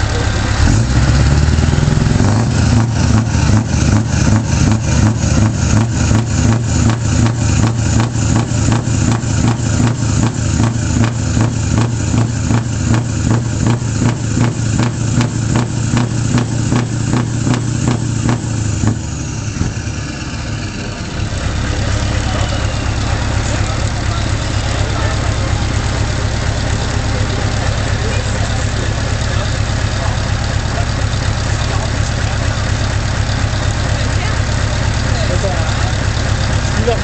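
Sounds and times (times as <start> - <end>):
truck engine idling with low drone: 0.0 - 37.0.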